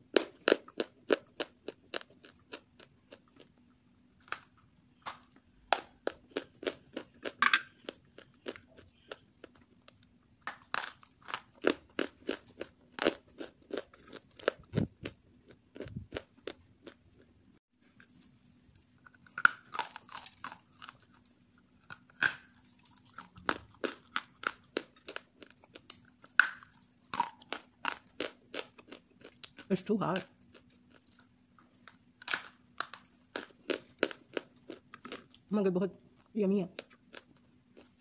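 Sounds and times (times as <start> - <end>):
dry crunching chewing: 0.1 - 17.4, 18.0 - 35.5, 36.1 - 38.0.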